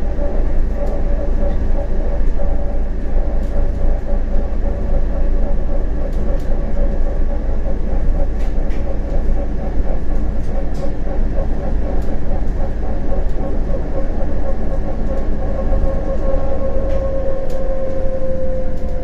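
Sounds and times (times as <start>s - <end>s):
tram wheels rumbling on rail: 0.0s - 19.0s.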